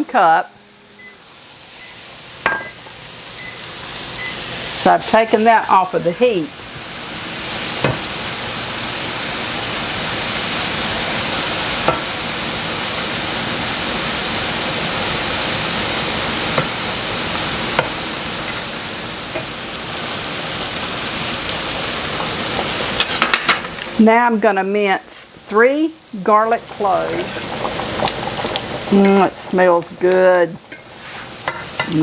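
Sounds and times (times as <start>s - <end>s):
mushrooms sizzling in frying pan: 0.0s - 32.0s.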